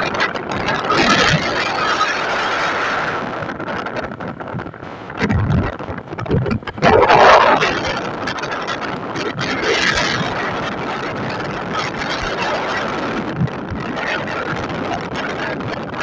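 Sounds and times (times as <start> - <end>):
vehicle travelling on road: 0.0 - 16.0
wind rushing over microphone: 0.0 - 16.0.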